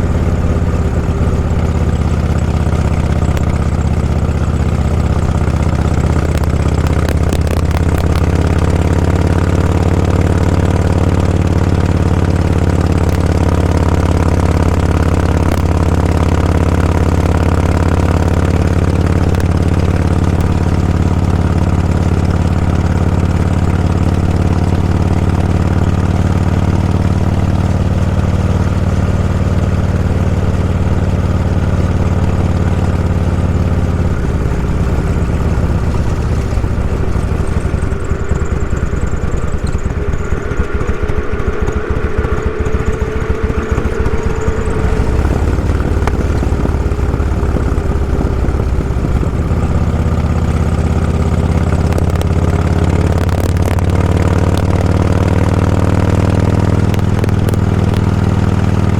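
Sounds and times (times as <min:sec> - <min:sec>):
road and wind noise: 0:00.0 - 0:58.9
vehicle engine hum: 0:00.0 - 0:58.9.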